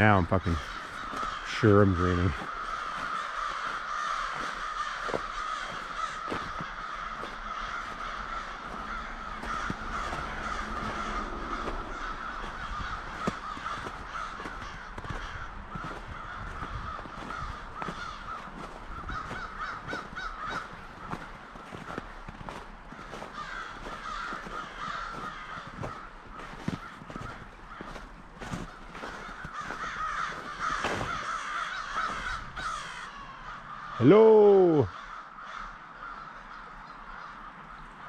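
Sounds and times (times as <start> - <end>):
flock of crows cawing: 0.0 - 38.0.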